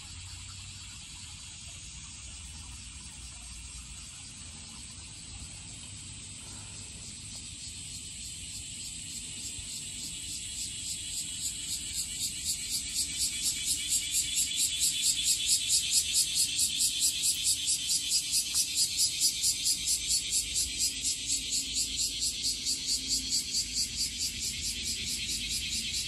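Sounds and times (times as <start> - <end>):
cicadas calling: 0.0 - 26.0.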